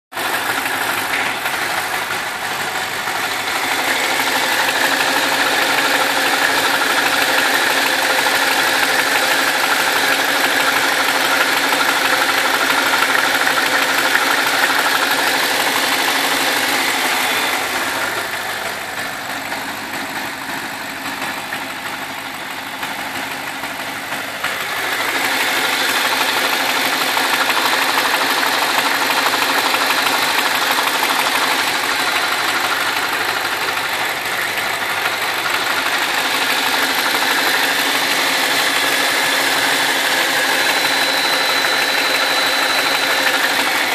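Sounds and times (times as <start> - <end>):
car engine running: 0.1 - 43.9
abnormal mechanical engine noise: 0.2 - 43.9.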